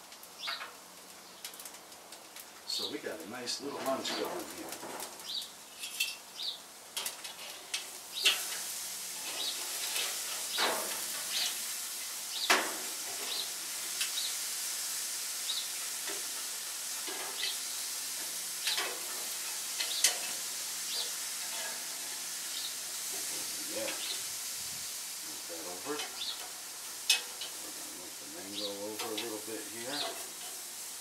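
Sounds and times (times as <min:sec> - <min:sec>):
food sizzling on a hot grill: 0:00.0 - 0:31.0
grill pops and crackles: 0:00.0 - 0:31.0.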